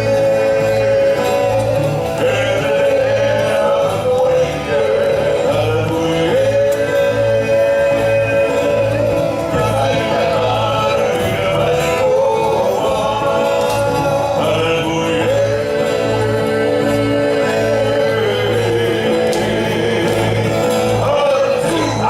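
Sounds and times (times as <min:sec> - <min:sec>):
group singing with low beat: 0:00.0 - 0:22.0.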